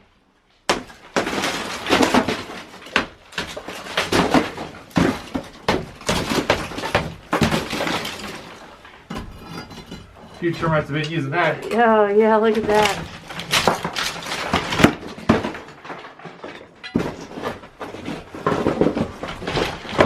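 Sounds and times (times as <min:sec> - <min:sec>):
lath and plaster cracking and snapping: 0:00.6 - 0:10.5, 0:12.5 - 0:20.0
crumbling debris: 0:00.7 - 0:20.0.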